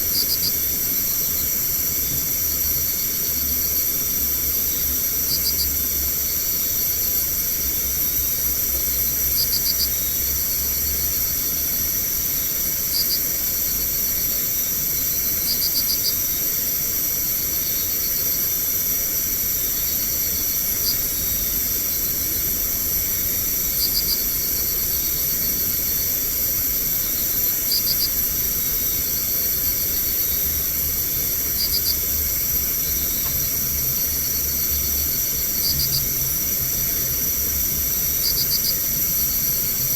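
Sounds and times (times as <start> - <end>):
insects trilling: 0.0 - 39.9
insect chirps: 0.1 - 39.9.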